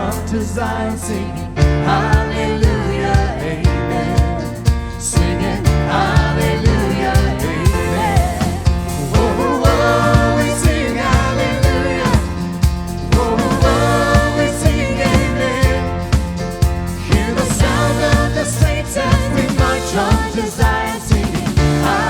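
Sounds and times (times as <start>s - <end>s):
praise band playing: 0.0s - 22.0s
steady drum beat: 0.0s - 22.0s.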